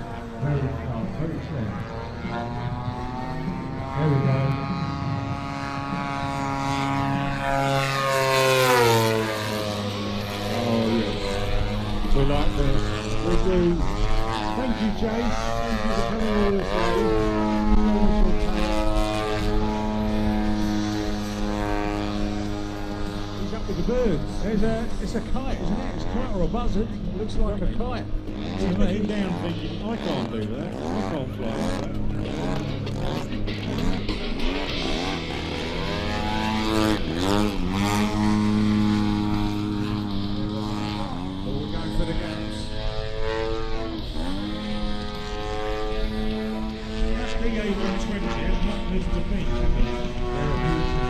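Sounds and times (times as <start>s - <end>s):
model plane engine droning: 0.0s - 51.0s.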